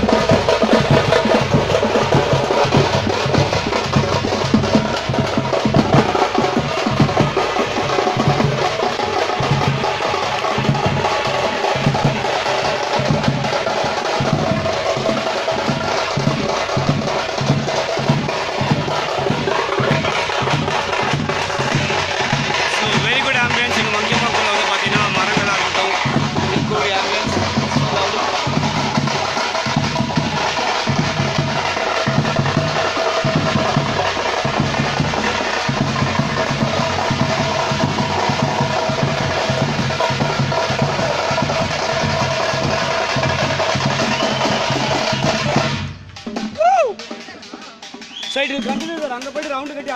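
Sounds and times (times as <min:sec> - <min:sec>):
frame drums beaten with sticks: 0:00.0 - 0:49.9
large barrel drum: 0:00.0 - 0:49.9.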